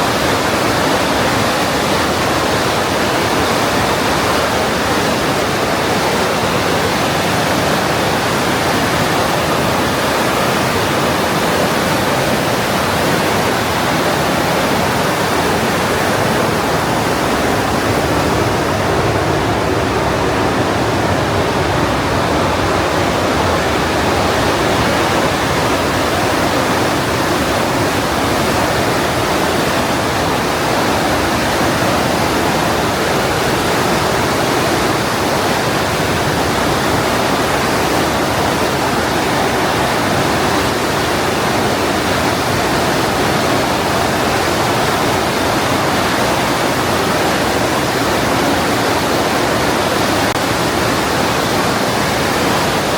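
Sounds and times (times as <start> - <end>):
mountain river rushing: 0.0 - 52.9.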